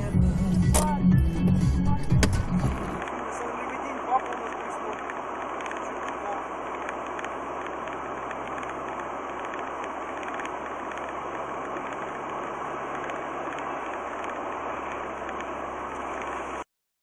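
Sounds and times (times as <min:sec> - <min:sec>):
car engine and tyre noise: 0:00.0 - 0:16.7.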